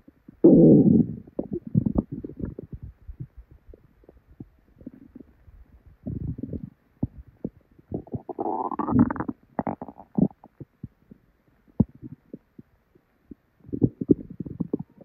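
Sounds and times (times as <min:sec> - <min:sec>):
stomach gurgling: 0:00.0 - 0:15.0.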